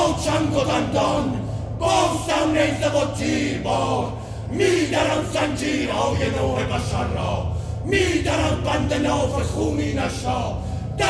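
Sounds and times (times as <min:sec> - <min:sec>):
men chanting together: 0:00.0 - 0:11.0
steady low drone: 0:00.0 - 0:11.0.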